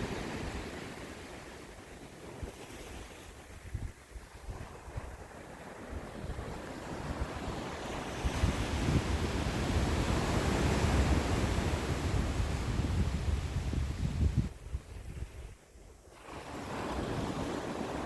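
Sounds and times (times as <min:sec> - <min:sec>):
ocean waves washing ashore: 0:00.0 - 0:18.0.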